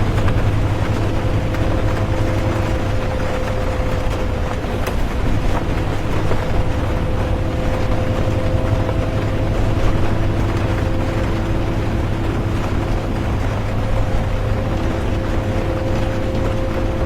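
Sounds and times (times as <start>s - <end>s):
bus engine and road rumble: 0.0s - 17.0s
faint steady whine: 0.0s - 17.0s
rain: 0.0s - 17.0s.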